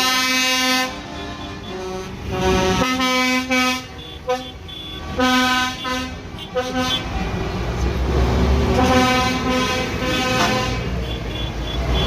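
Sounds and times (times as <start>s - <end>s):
truck horns blowing: 0.0s - 7.2s, 8.6s - 12.0s
vehicle engines rumbling: 0.0s - 12.0s.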